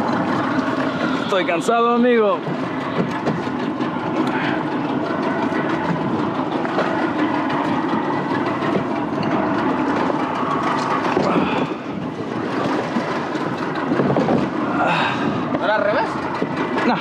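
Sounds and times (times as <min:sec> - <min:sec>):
outboard motor running: 0:00.0 - 0:17.0
water washing against hull: 0:00.0 - 0:17.0
wind buffeting microphone: 0:00.0 - 0:17.0.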